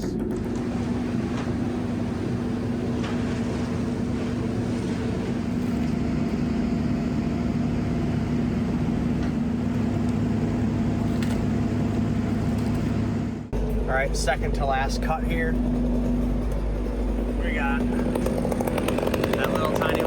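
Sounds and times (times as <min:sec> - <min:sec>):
crane diesel engine droning: 0:00.0 - 0:20.0.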